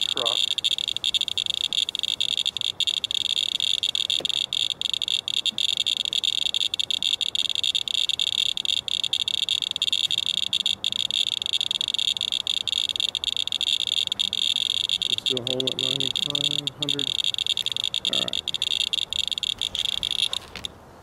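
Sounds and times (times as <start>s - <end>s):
geiger counter clicking rapidly: 0.0s - 20.7s.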